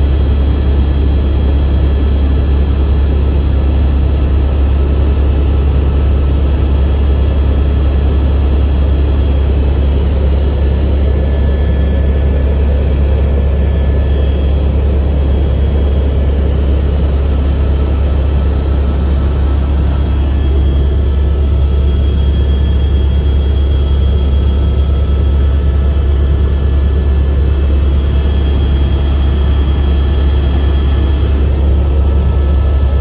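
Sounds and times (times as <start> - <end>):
helicopter rotor drone: 0.0 - 33.0.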